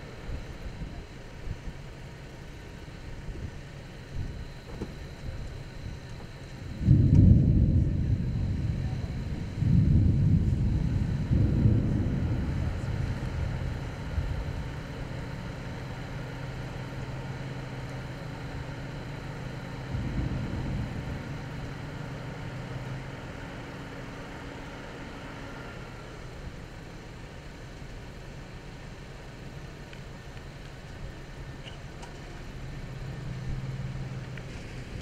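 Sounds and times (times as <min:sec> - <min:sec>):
low rumbling noise: 0:00.0 - 0:35.0
vehicle engine idling: 0:00.0 - 0:35.0.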